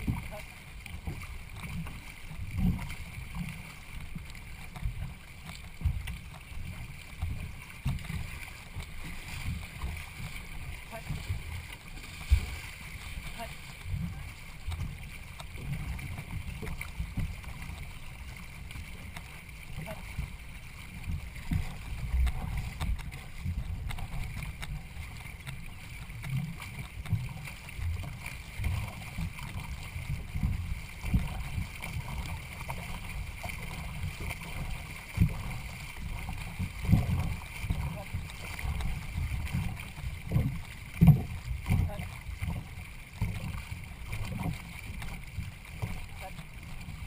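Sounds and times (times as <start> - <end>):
boat and water noise: 0.0 - 47.0
wind rumbling on microphone: 0.0 - 47.0.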